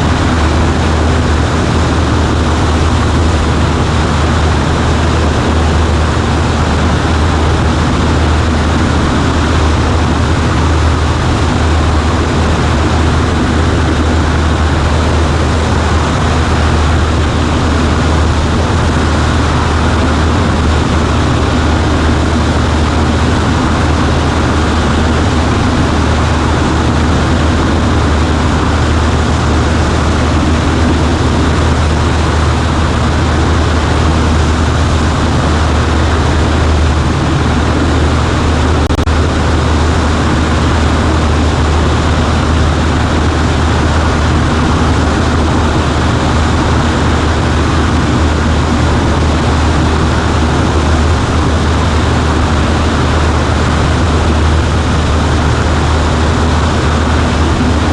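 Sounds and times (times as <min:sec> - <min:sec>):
light aircraft engine droning: 0:00.0 - 0:57.9.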